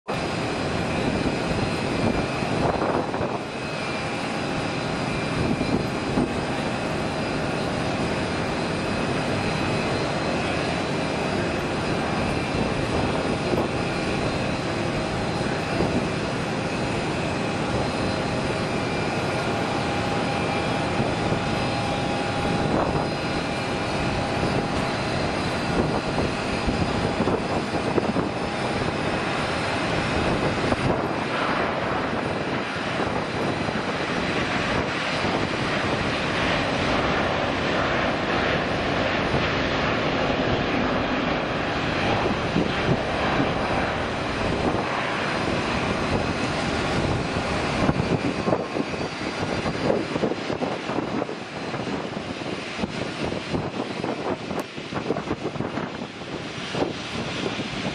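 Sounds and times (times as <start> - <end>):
jet engines running: 0.0 - 57.9.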